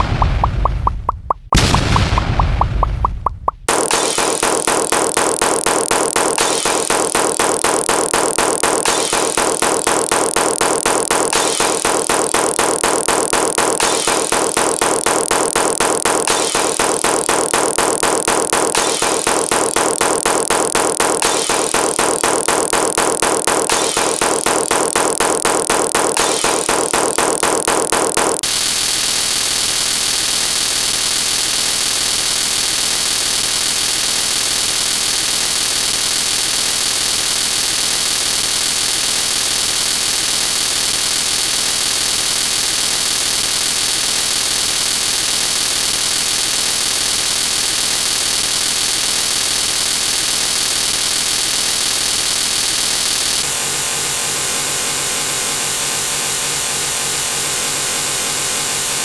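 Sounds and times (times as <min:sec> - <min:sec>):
loud steady wall of noise: 0:03.6 - 0:59.0.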